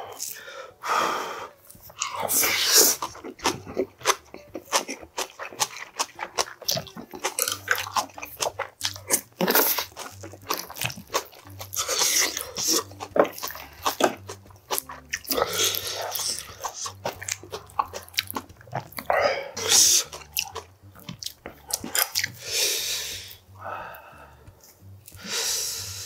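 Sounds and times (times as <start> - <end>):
chewing and crunching food: 0.0 - 0.5, 1.7 - 26.0.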